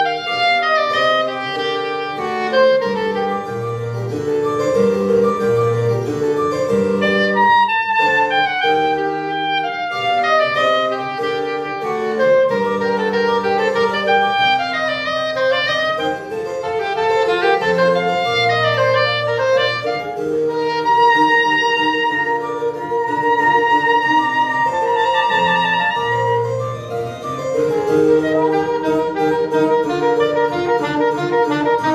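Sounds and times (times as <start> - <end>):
low accompaniment notes: 0.0 - 31.9
soprano saxophone solo: 0.0 - 31.9.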